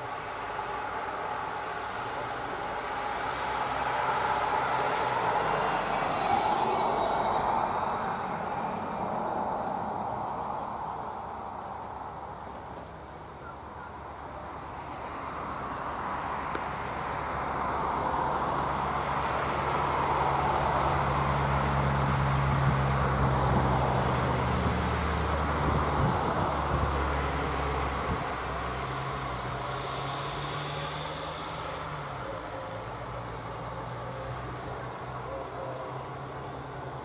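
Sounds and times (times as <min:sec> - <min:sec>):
passing vehicle engine and road noise: 0:00.0 - 0:37.0.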